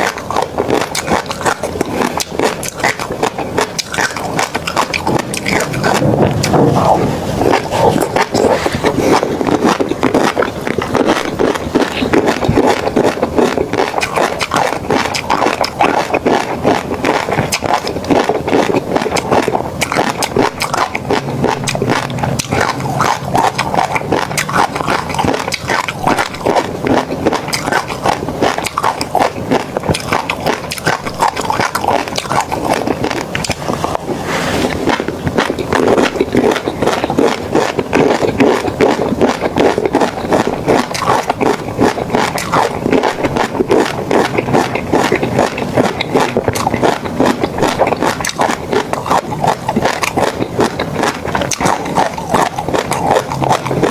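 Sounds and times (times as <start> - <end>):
wet chewing and smacking: 0.0 - 53.9.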